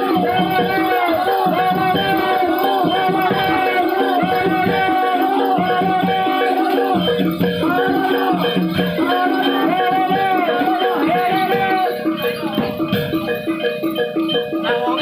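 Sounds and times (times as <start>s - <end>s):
gamelan ensemble music: 0.0s - 15.0s
wavering melody line: 0.0s - 15.0s.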